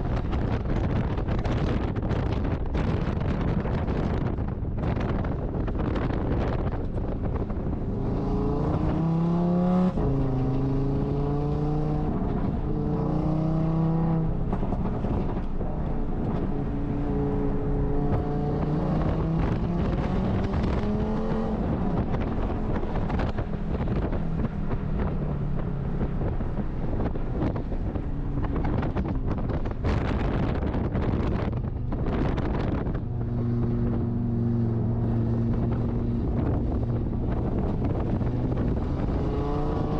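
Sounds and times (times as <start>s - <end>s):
wind rushing over microphone: 0.0s - 39.9s
race car engine shifting gears: 4.1s - 39.9s.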